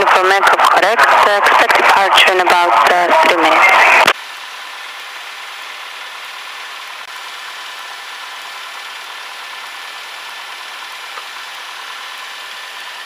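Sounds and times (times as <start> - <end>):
airplane engine idling: 0.6 - 13.0.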